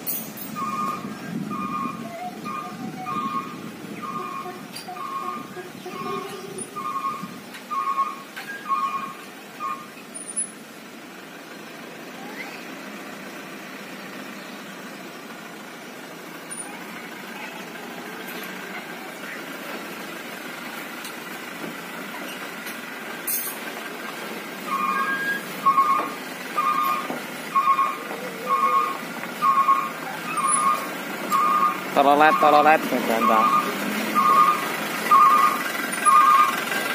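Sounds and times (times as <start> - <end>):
truck reversing beeper: 0.0 - 10.7, 11.8 - 15.7, 16.3 - 19.7, 24.5 - 36.9
dump truck diesel engine: 0.0 - 36.9.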